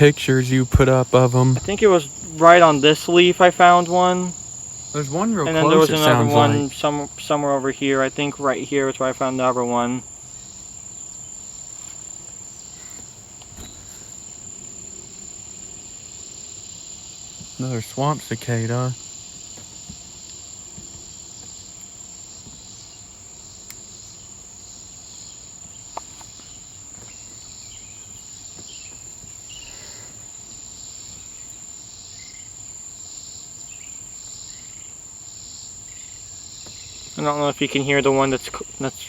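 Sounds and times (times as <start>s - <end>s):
cicada buzzing drone: 0.0s - 39.0s
high-pitched insect trill: 0.1s - 39.0s.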